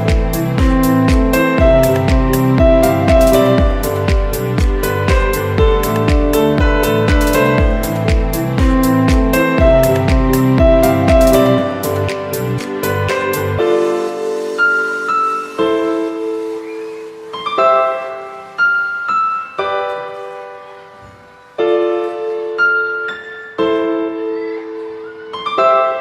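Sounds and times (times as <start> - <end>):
slow solo piano: 0.0 - 26.0.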